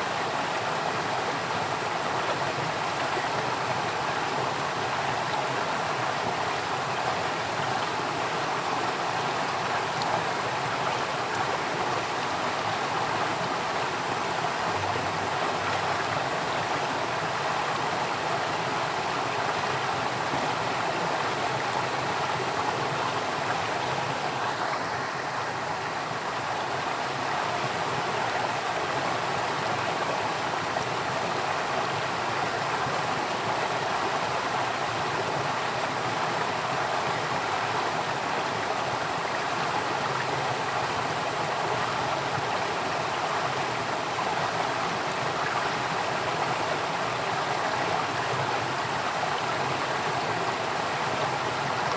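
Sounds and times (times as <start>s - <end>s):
flowing water rushing: 0.0s - 51.9s.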